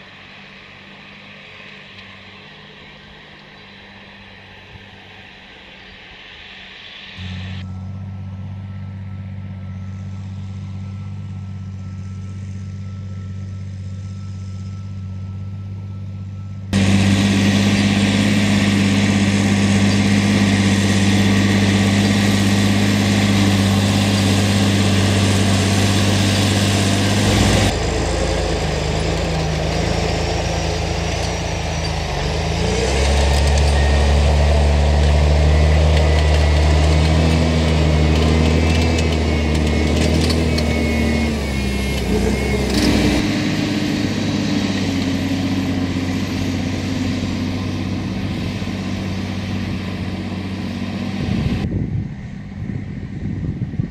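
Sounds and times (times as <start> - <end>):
tractor diesel engine under load: 7.2 - 53.9.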